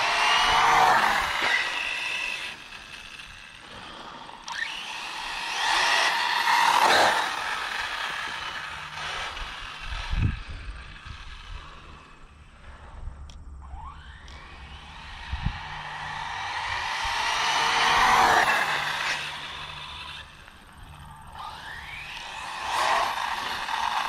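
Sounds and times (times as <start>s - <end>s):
electric motor whine: 0.0s - 24.0s.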